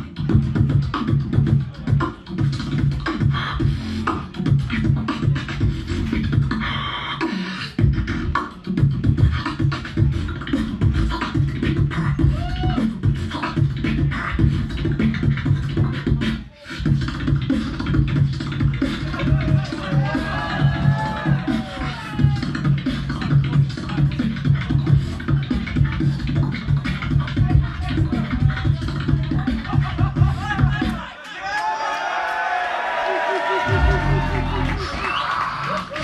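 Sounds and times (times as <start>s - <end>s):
pitched vocal glides: 0.0s - 31.1s
person beatboxing into microphone: 0.0s - 31.2s.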